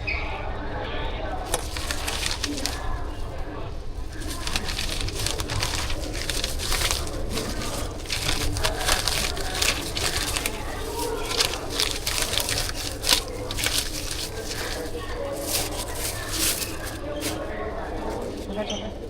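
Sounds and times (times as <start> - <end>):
wrapper crinkling: 1.4 - 18.6.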